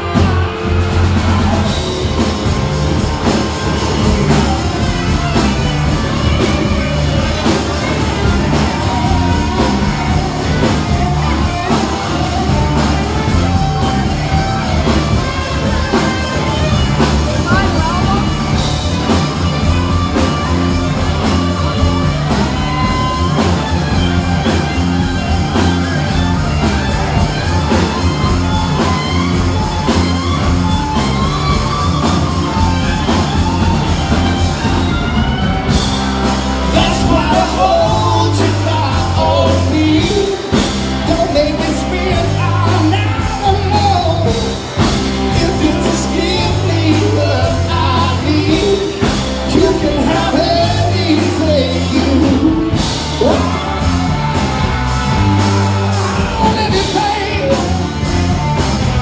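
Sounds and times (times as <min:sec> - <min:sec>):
lead singer singing: 0:00.0 - 0:59.0
rock band playing: 0:00.0 - 0:59.0.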